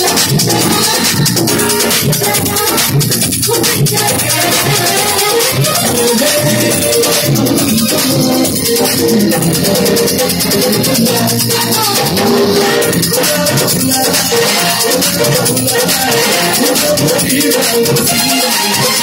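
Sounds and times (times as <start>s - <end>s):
electric guitar: 0.0s - 19.0s
fast high-pitched percussion: 0.0s - 19.0s
live band music: 0.0s - 19.0s.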